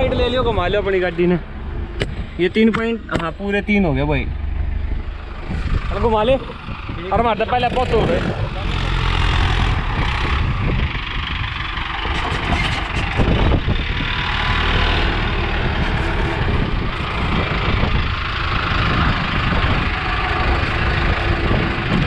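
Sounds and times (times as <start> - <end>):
tractor diesel engine at full throttle: 0.0 - 22.0.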